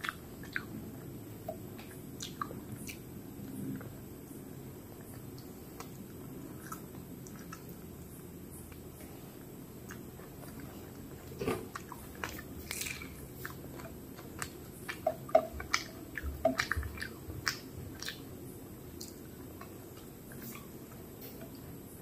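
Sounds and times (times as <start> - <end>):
chewing: 0.0 - 22.0.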